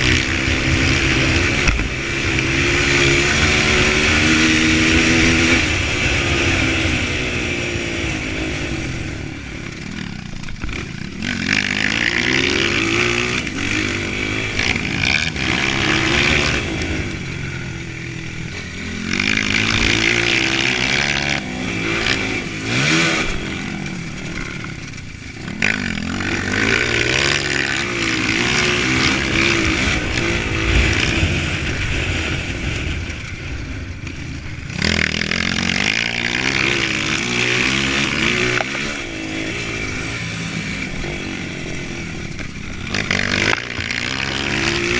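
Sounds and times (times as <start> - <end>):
dirt bike engine revving: 0.0 - 44.9
steady rushing noise: 0.0 - 44.9.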